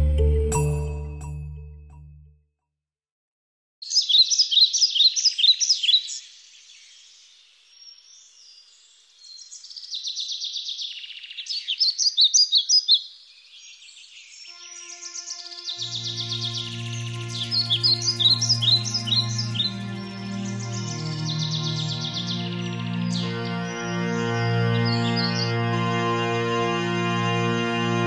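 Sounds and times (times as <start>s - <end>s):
songbirds chirping and trilling: 3.8s - 27.3s.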